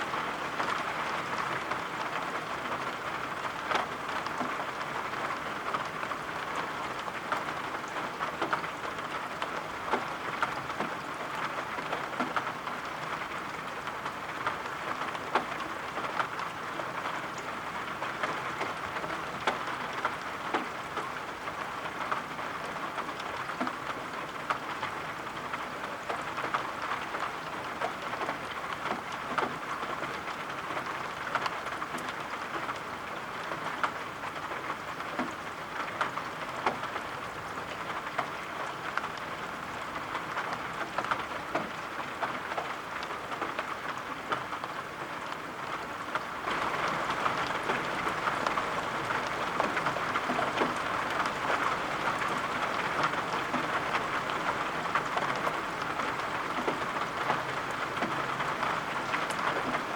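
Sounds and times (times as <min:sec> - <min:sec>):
steady rain falling: 0:00.0 - 0:59.9
sharp taps of raindrops: 0:00.3 - 0:59.9.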